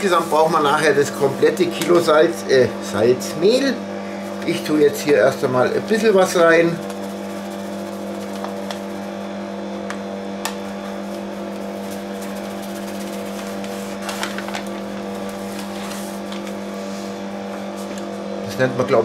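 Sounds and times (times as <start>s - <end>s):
stand mixer motor hum: 0.0s - 19.0s.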